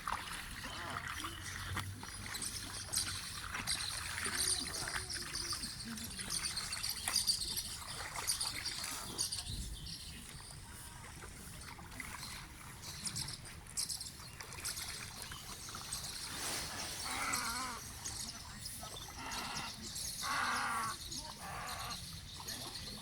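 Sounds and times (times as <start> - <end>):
water trickling and lapping: 0.0 - 23.0
birds and insects chirping: 0.6 - 23.0.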